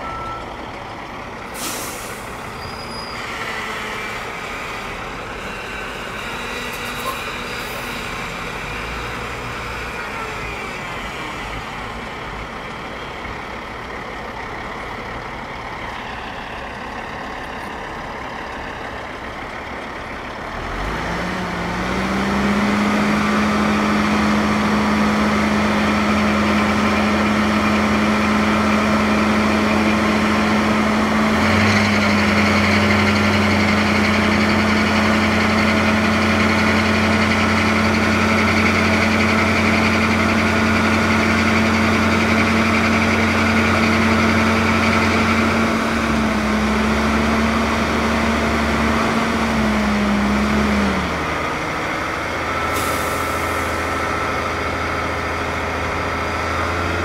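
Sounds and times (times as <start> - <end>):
diesel truck engine running: 0.0 - 2.6, 3.2 - 57.0.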